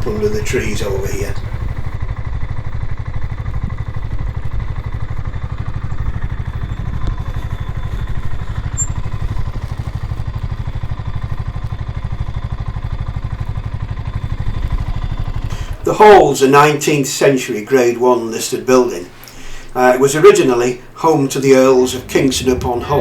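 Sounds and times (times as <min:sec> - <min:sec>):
motorcycle engine running slowly: 0:00.0 - 0:16.7, 0:19.2 - 0:23.0.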